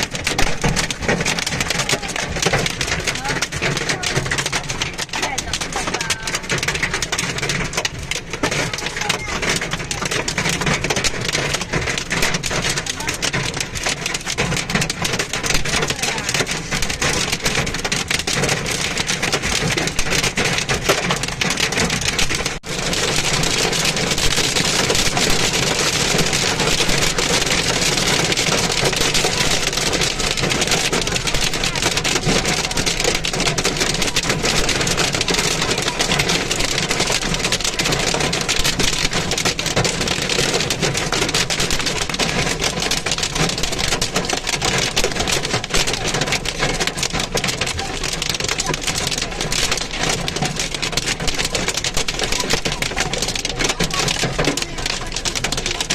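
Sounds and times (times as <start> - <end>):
heavy rain pelting hard surfaces: 0.0 - 55.9.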